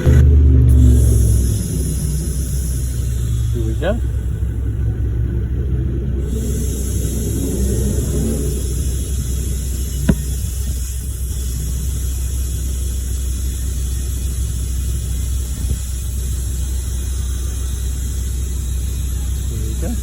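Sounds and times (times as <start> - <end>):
motor rumbling: 0.0 - 20.0.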